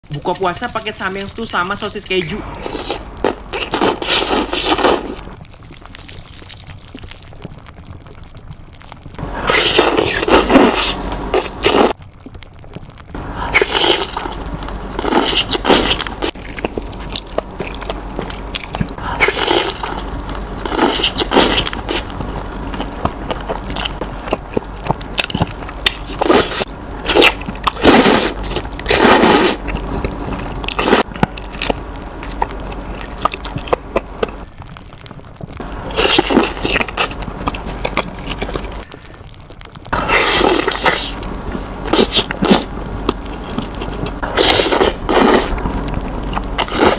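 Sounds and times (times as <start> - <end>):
chewing and slurping: 2.6 - 7.4, 9.2 - 12.0, 13.4 - 34.4, 35.8 - 38.9, 39.9 - 46.9.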